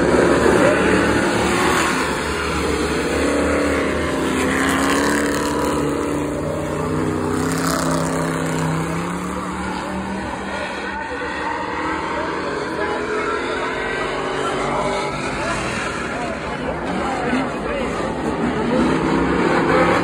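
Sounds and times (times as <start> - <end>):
stock car engines running: 0.0 - 20.0.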